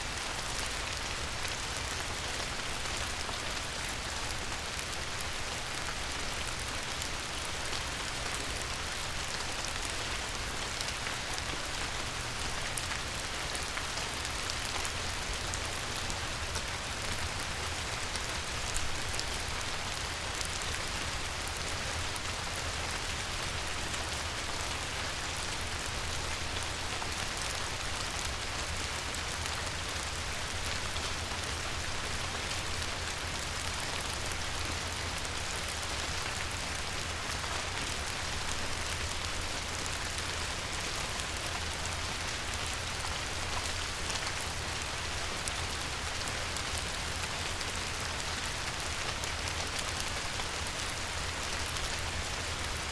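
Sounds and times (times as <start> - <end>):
rain pattering on water: 0.0 - 52.9.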